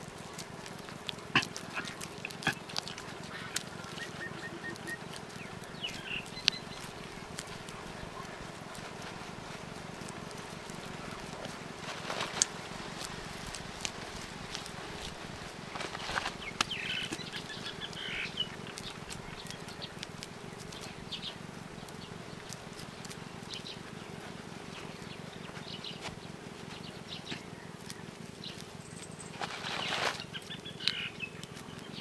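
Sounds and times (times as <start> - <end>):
birds chirping: 0.0 - 32.0
hands working wet clay: 0.0 - 32.0
low background hum: 0.0 - 32.0.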